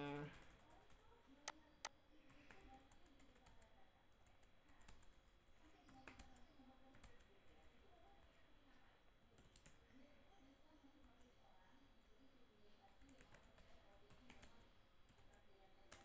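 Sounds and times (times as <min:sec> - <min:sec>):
faint keyboard typing: 0:00.0 - 0:16.0.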